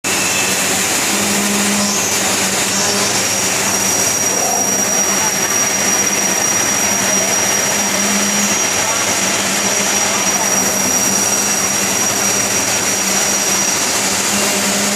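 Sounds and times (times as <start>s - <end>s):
machining center running: 0.0s - 14.9s
thin high whine: 0.0s - 14.9s.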